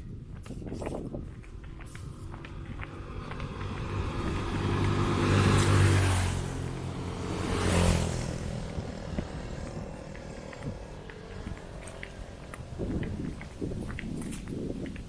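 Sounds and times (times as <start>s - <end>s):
vehicles driving past: 0.8s - 15.0s.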